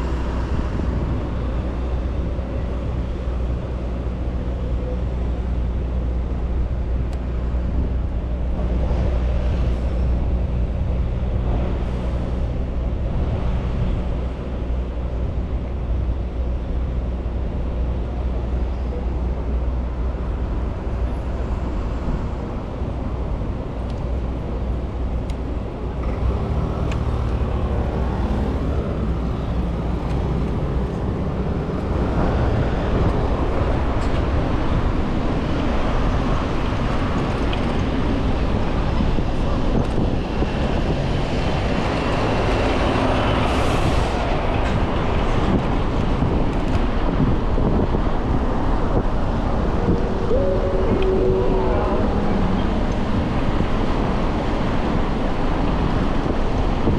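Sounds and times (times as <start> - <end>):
road traffic noise: 0.0 - 56.9
vehicle engine low hum: 0.0 - 56.9.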